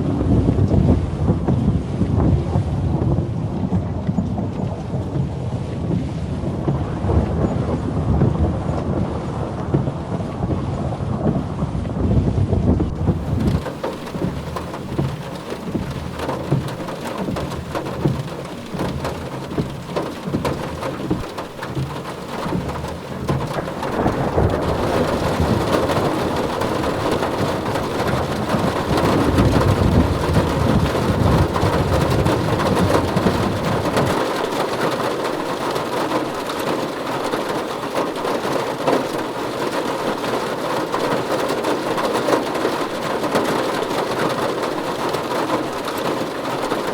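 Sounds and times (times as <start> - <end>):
thunder rumbling: 0.0 - 38.0
heavy rain on car roof: 0.0 - 46.9.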